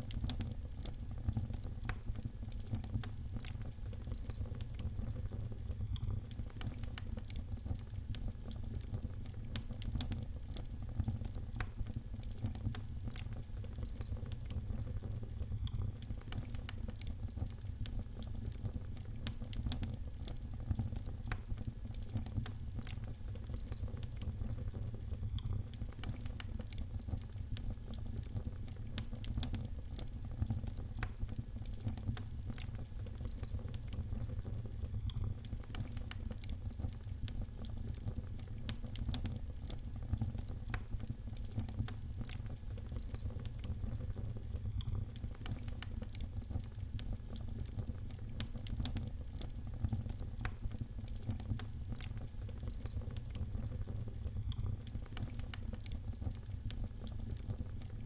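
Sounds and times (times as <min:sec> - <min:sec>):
low fire rumble: 0:00.0 - 0:58.0
wood fire crackling: 0:00.0 - 0:58.0.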